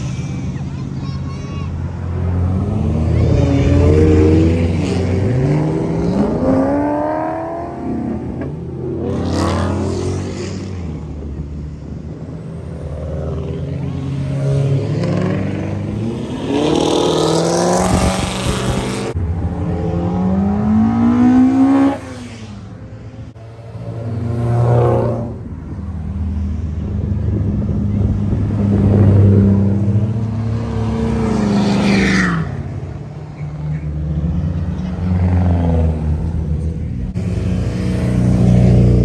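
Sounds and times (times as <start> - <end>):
car engines revving: 0.0 - 39.0.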